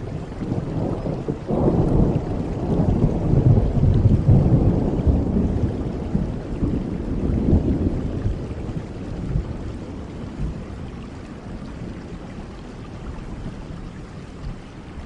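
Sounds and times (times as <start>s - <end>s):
thunder rumbling: 0.0s - 14.1s
steady rain: 0.0s - 15.0s.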